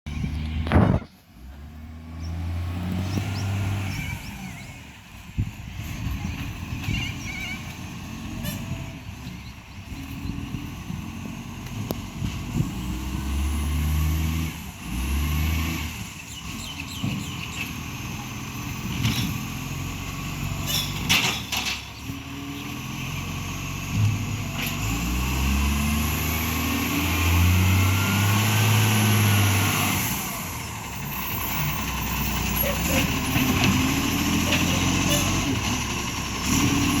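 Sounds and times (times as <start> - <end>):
garbage truck diesel engine revving: 0.1 - 37.0.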